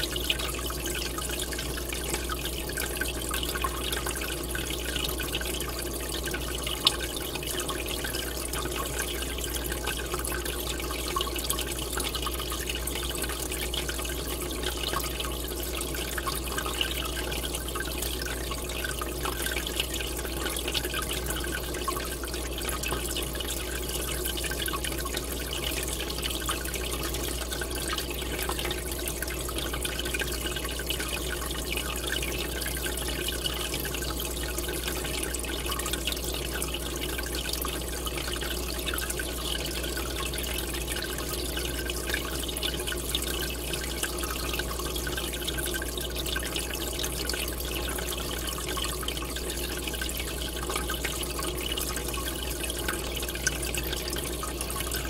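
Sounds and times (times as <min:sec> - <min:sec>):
aquarium air bubbler bubbling: 0:00.0 - 0:55.0
low steady hum: 0:00.0 - 0:55.0.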